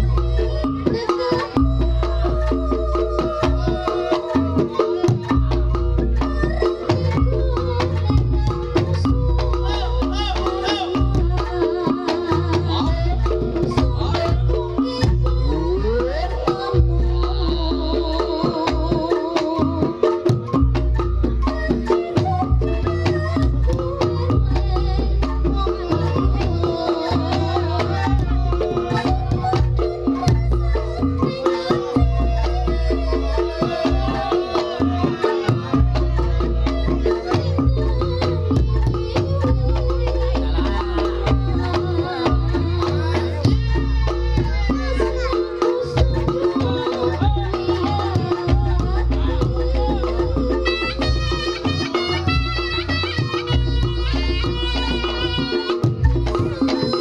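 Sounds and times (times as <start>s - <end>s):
drums beating: 0.0s - 57.0s
wavering melody line: 0.0s - 57.0s.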